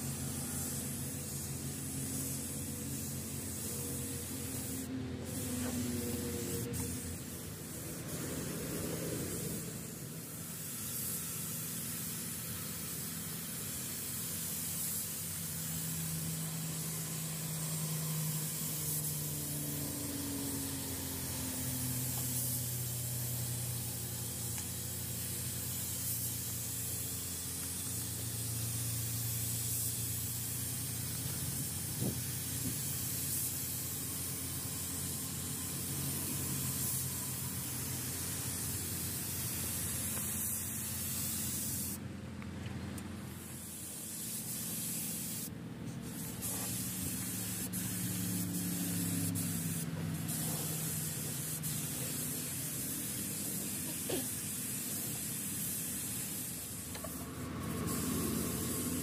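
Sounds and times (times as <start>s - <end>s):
paint spray gun hissing: 0.0s - 42.0s, 43.0s - 59.0s.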